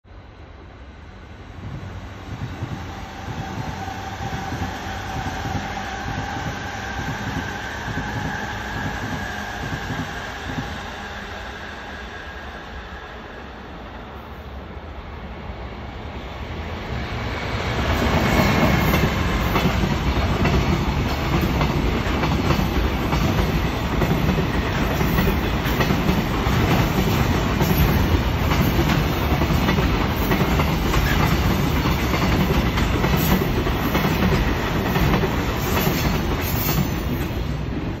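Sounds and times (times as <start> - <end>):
electric locomotive passing: 0.1 - 38.0.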